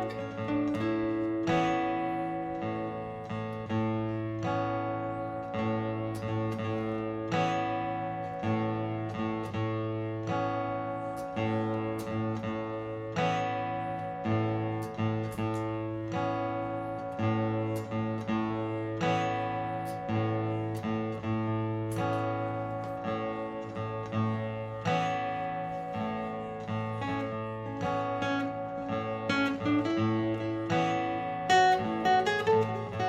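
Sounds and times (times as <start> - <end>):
acoustic guitar strumming: 0.0 - 33.0
picked guitar melody: 0.0 - 33.0.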